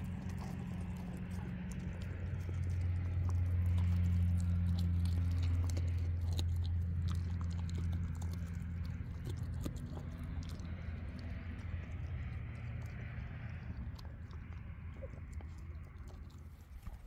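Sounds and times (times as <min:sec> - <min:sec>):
puppy chewing and crunching food: 0:00.0 - 0:17.0
steady low hum: 0:00.0 - 0:17.0.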